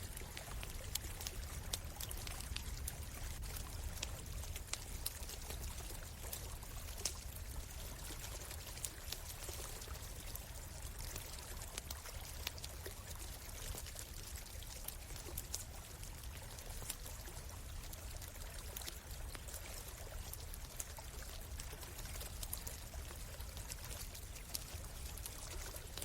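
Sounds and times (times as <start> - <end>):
campfire crackling: 0.0 - 26.0
stream running: 0.0 - 26.0.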